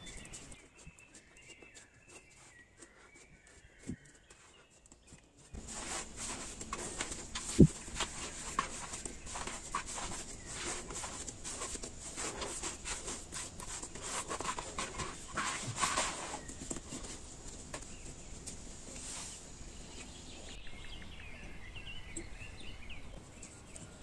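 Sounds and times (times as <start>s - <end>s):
hands kneading dough: 0.0s - 20.5s.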